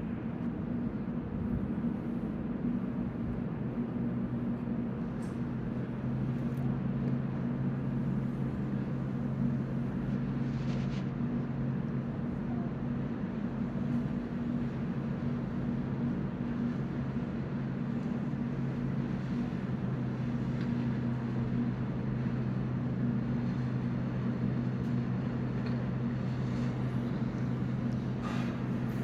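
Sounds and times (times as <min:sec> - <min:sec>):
ship machinery humming: 0:00.0 - 0:29.0.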